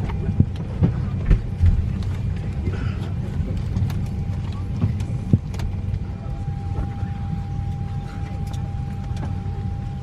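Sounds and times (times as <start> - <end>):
airliner cabin rumble: 0.0 - 10.0
faint steady hum: 0.0 - 10.0.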